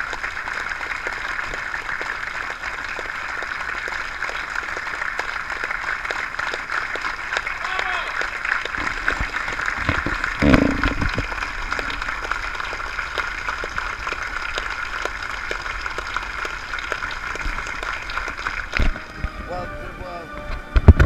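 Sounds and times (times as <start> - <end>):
audience applauding: 0.0 - 19.6.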